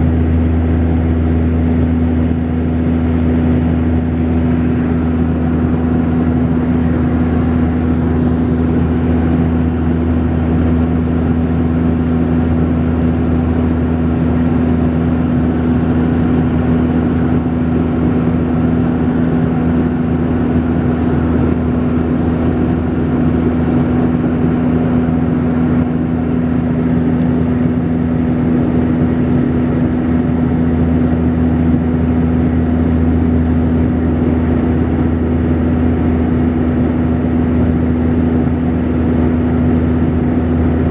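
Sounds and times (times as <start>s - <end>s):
turboprop cabin drone: 0.0s - 40.9s.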